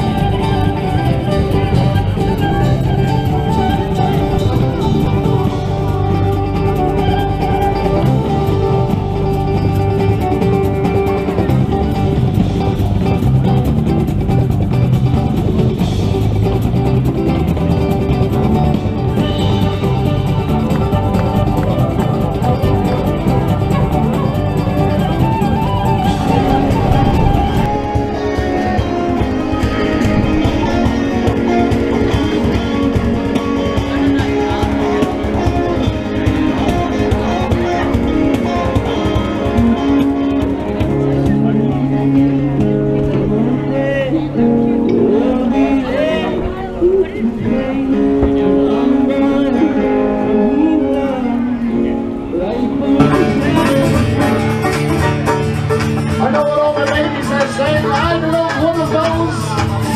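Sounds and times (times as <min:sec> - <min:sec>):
bass notes: 0:00.0 - 0:59.9
guitar strummed and plucked: 0:00.0 - 0:59.9
instrumental rock music: 0:00.0 - 0:59.9.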